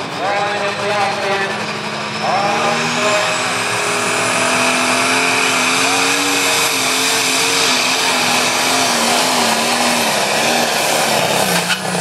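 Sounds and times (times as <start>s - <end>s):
tractor engine at high revs: 0.0s - 12.0s.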